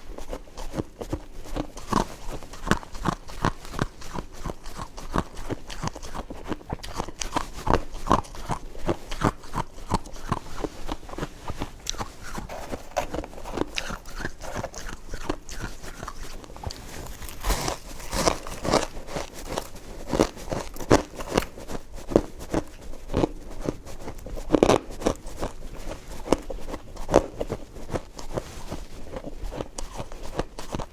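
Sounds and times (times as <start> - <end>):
ice being crunched by chewing: 0.1 - 30.9.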